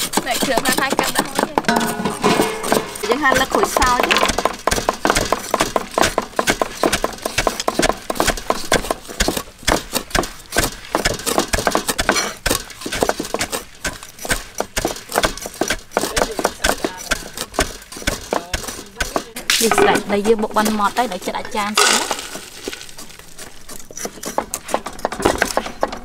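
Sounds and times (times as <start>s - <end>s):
cleavers chopping on wood: 0.0s - 26.0s.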